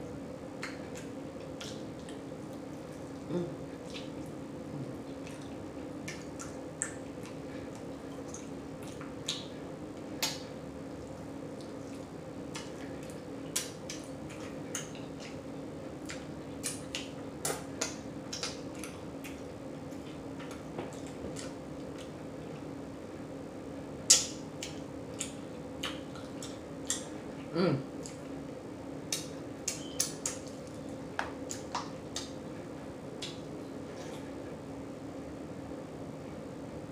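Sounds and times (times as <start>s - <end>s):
low electrical hum: 0.0s - 36.9s
chewing and lip smacking: 0.6s - 22.7s, 24.1s - 28.4s, 29.1s - 32.4s, 33.1s - 34.3s.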